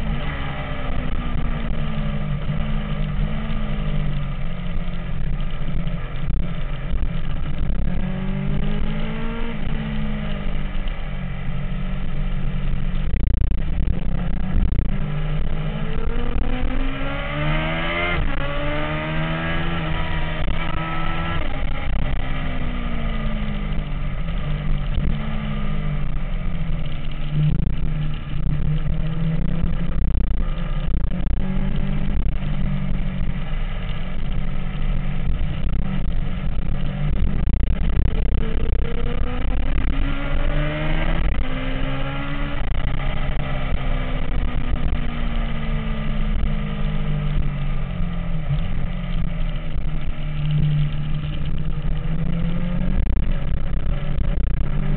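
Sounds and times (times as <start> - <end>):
motorcycle engine revving: 0.0 - 54.9
steady low rumble: 0.0 - 54.9.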